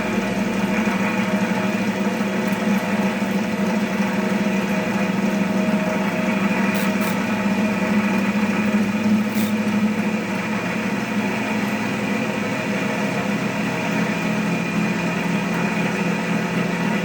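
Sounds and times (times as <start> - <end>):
cotton candy machine motor hum: 0.0 - 17.0.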